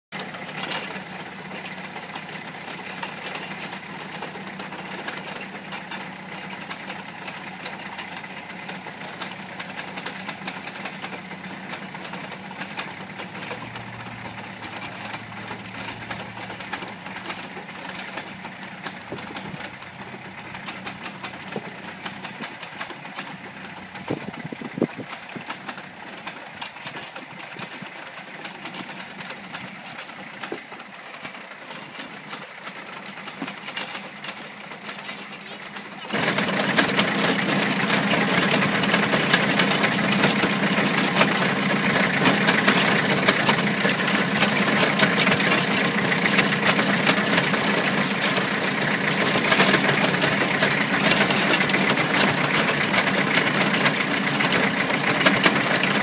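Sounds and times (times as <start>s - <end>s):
diesel tractor engine running: 0.1s - 56.0s
digger rattling and clicking: 0.1s - 56.0s.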